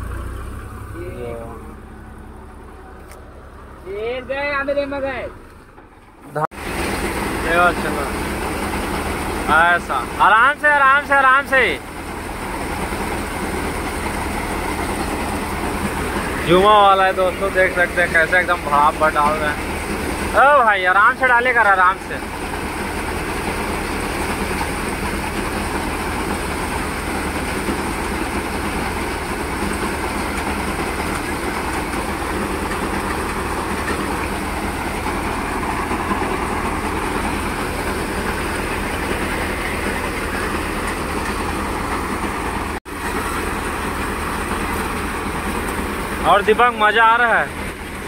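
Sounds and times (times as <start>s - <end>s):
paddy thresher running: 0.0s - 48.0s
tractor diesel engine: 0.0s - 48.0s.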